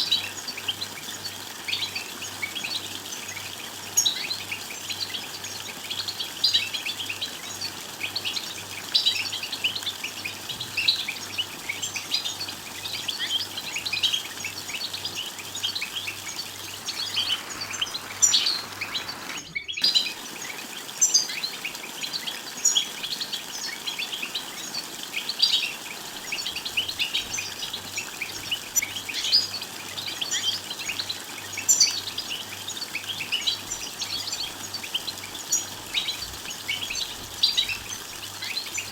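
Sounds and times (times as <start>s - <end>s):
goldfinch twittering chirps: 0.0s - 38.9s.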